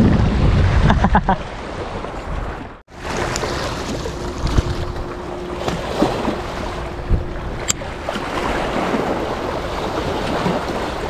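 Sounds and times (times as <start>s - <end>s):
wind and water rushing: 0.0s - 11.0s.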